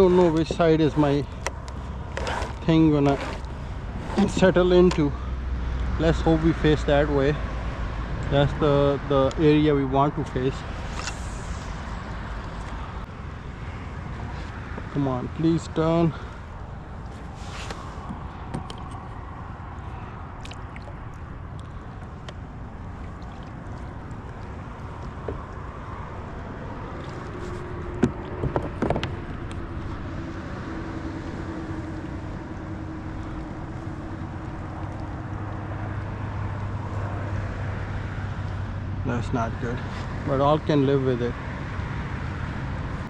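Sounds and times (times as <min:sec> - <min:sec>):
wind and water rumble: 0:00.0 - 0:43.0.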